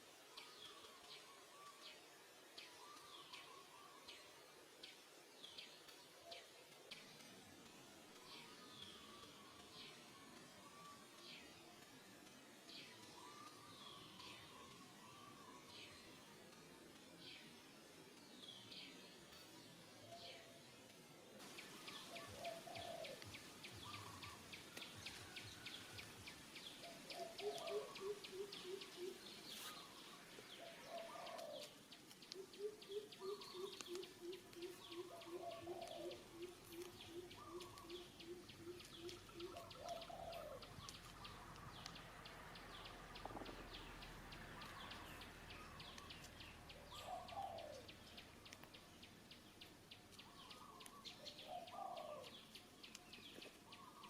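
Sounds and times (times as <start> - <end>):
faint birds calling: 0.1 - 54.0.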